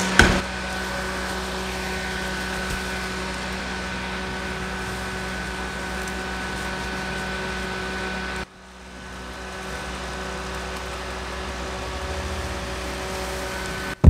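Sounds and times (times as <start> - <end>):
desk fans whirring: 0.0 - 14.0
motor hum: 0.0 - 14.0.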